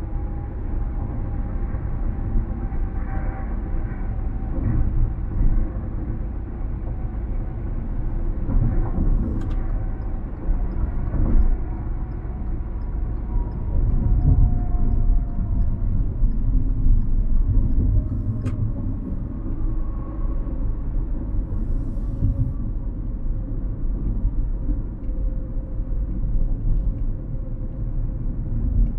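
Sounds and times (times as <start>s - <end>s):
car cabin road rumble: 0.0s - 28.9s.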